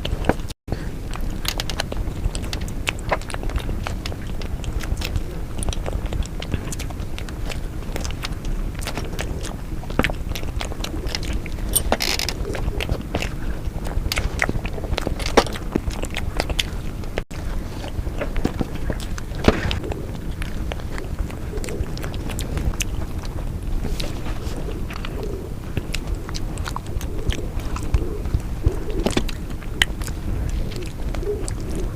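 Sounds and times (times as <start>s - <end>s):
close-miked chewing and mouth clicks: 0.0s - 31.9s.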